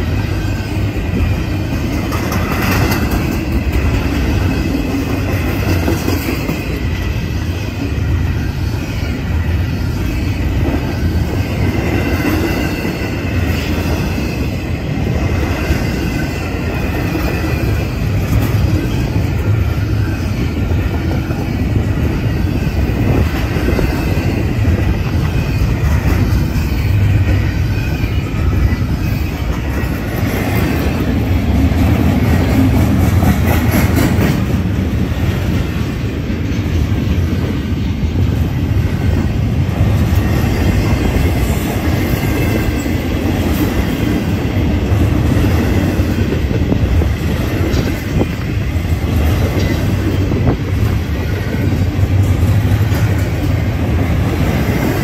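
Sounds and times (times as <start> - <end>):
freight train wheels rumbling on rail: 0.0 - 55.0
wheels clicking on rail: 0.0 - 55.0.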